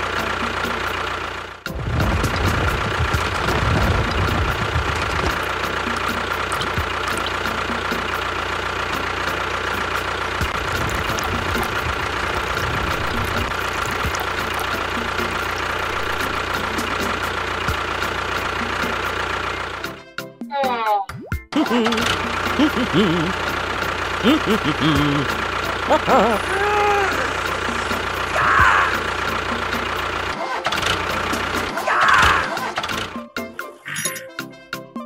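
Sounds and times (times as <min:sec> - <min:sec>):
tractor engine drone: 0:00.0 - 0:20.2, 0:21.6 - 0:34.4.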